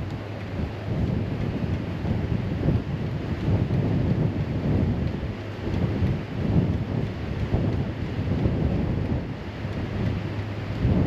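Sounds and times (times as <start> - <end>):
steady low hum: 0.0 - 11.0
wind buffeting microphone: 0.0 - 11.0.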